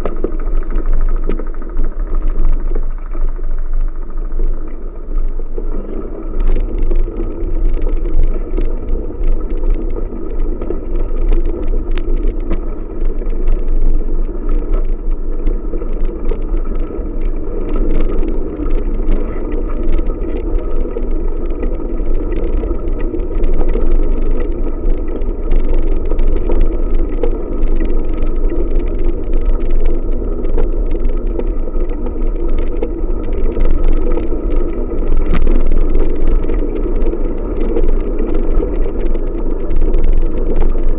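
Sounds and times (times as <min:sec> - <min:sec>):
bicycle tyre rumble: 0:00.0 - 0:40.9.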